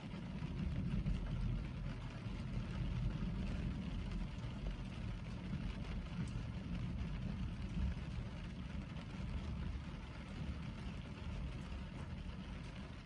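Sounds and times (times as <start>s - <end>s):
rain falling on a car: 0.0s - 13.0s.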